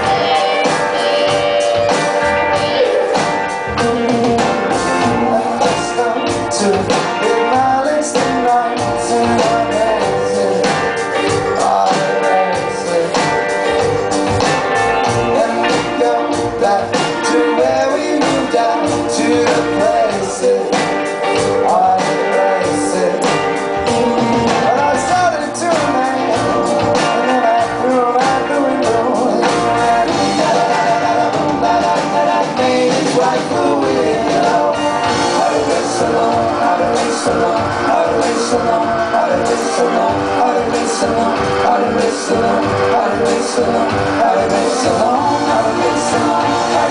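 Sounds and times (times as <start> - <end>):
bass guitar: 0.0 - 46.9
drum kit: 0.0 - 46.9
electric guitars: 0.0 - 46.9
lead vocal singing: 0.0 - 46.9.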